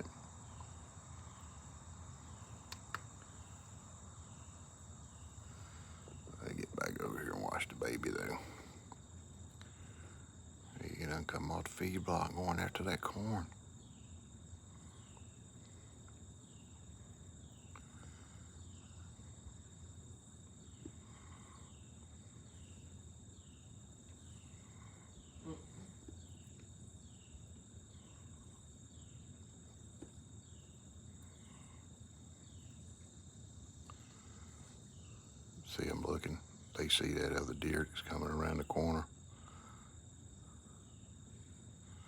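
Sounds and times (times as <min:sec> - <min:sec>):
falling insect chirp: 0:00.0 - 0:42.0
insect buzz: 0:00.0 - 0:42.0.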